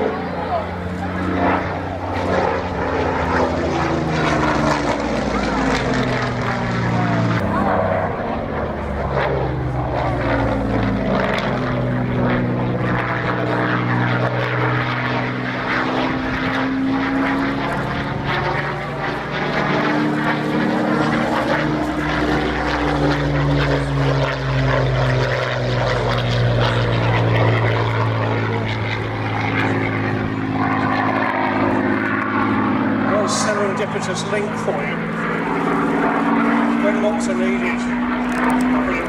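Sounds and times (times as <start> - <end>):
propeller aircraft engine passing: 0.0 - 39.0.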